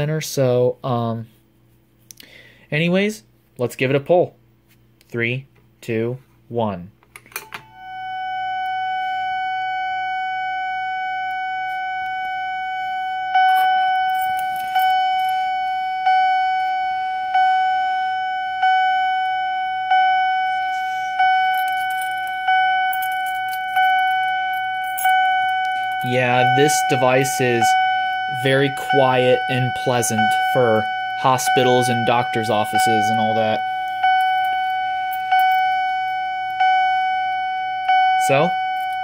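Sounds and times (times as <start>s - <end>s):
alarm chime tone: 7.5s - 39.0s.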